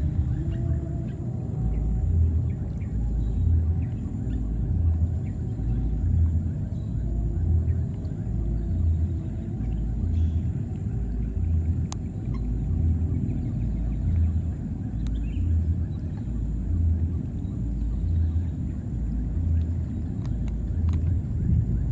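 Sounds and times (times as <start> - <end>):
throbbing motor rumble: 0.0 - 21.9.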